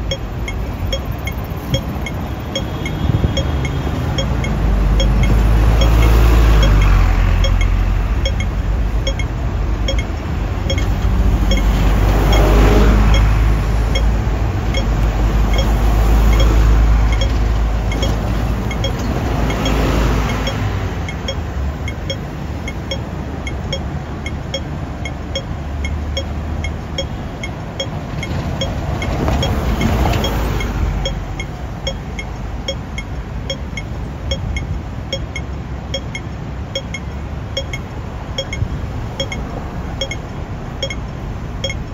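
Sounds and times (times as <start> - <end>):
vehicle passing: 0.0 - 34.1
crossing signal short beeps: 0.0 - 41.9
street traffic: 0.0 - 41.9.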